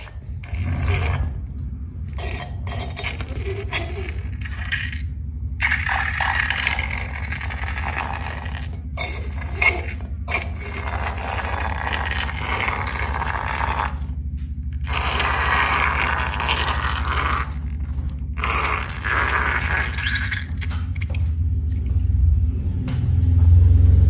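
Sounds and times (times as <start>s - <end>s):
slime squelching by hand: 0.0s - 22.0s
steady low hum: 0.0s - 24.0s.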